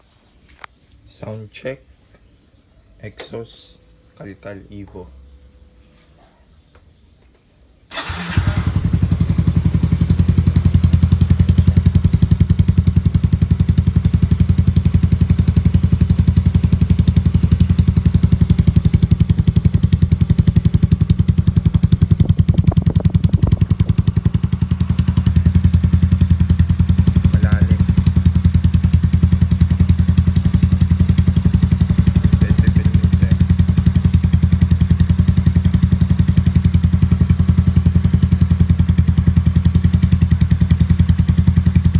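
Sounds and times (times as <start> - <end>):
scooter engine idling: 7.9 - 41.9.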